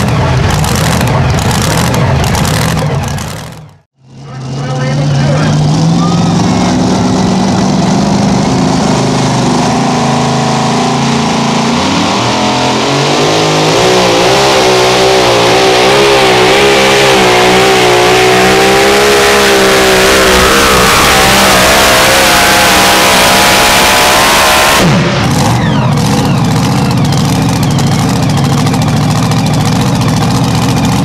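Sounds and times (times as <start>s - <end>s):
truck engine idling and revving: 0.0s - 31.0s.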